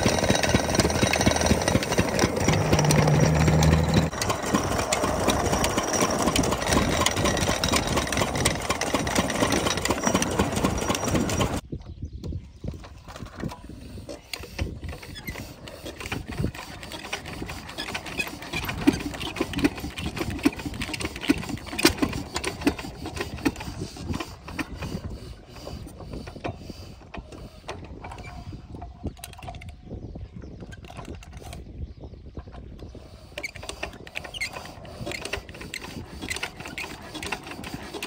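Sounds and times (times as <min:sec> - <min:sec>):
diesel engine cranking clanks: 0:00.0 - 0:11.6, 0:14.1 - 0:28.6, 0:33.3 - 0:38.0.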